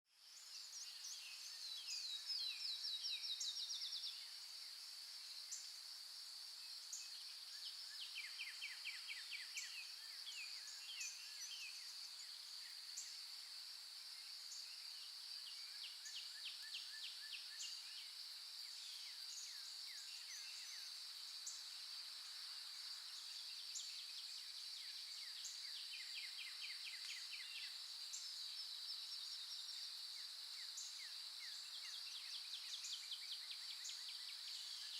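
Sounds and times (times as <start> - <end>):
insect drone: 0.2 - 34.9.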